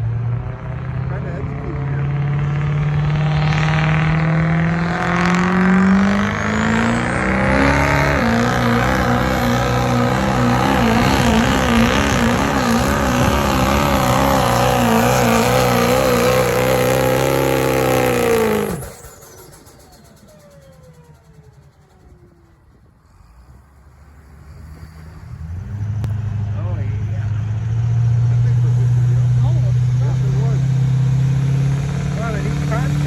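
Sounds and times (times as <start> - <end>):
falling whine: 0.0 - 27.5
diesel truck engine at full throttle: 0.0 - 33.0.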